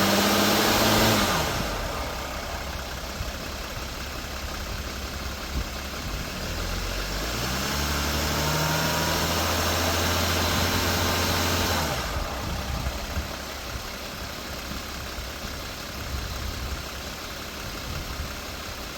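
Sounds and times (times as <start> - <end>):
diesel engine revving: 0.0 - 18.9.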